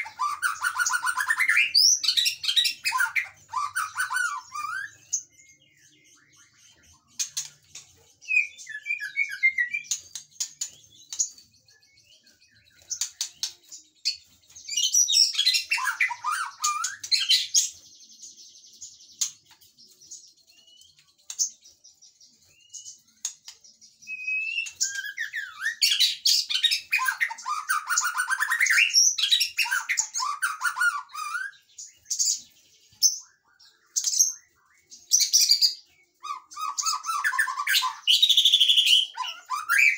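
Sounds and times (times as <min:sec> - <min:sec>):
bird singing varied phrases: 0:00.0 - 0:39.9.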